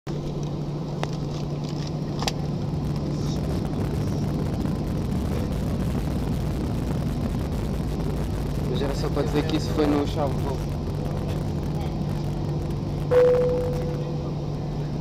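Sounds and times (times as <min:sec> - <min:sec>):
airliner cabin hum and rumble: 0:00.1 - 0:15.0.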